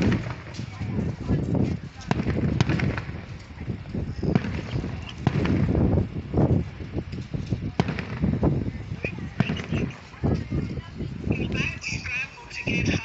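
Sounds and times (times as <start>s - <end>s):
distant fireworks bursting: 0.0s - 13.0s
wind buffeting microphone: 0.0s - 13.0s.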